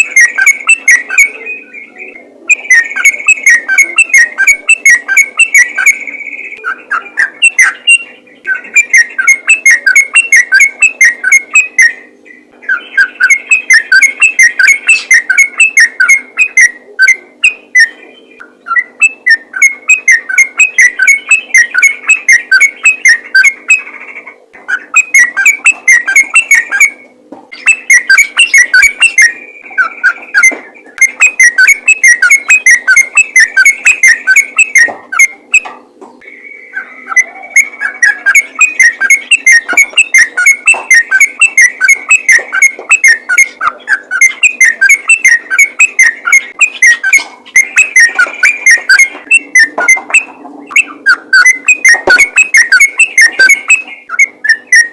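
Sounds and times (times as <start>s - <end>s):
bulbul singing whistled notes: 0.0s - 24.0s, 24.6s - 54.9s.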